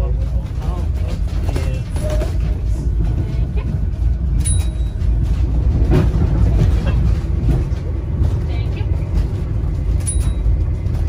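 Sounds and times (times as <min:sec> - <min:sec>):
tram wheels rumbling: 0:00.0 - 0:11.0
knocks and rattles: 0:00.2 - 0:11.0.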